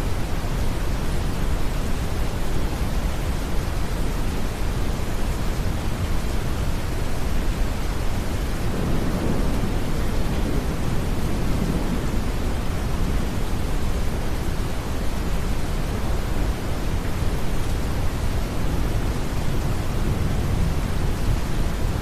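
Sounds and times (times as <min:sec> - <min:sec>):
soft rain: 0:00.0 - 0:22.0.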